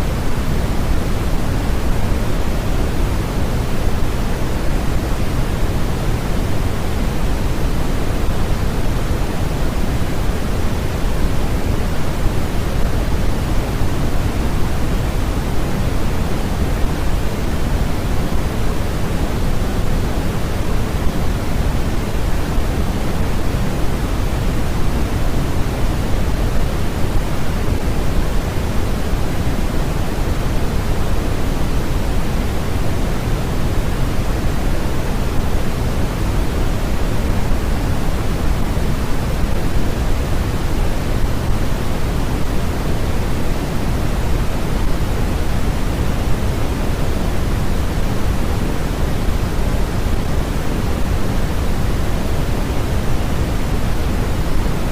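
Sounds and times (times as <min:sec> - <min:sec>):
pink noise hiss: 0:00.0 - 0:54.9.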